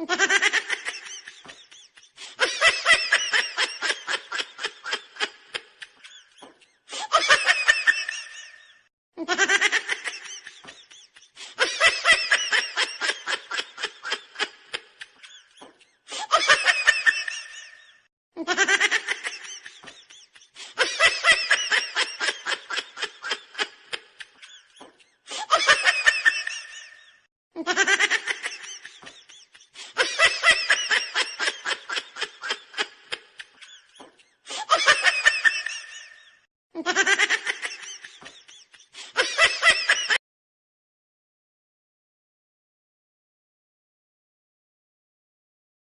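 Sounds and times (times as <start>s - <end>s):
person laughing: 0.0s - 40.2s.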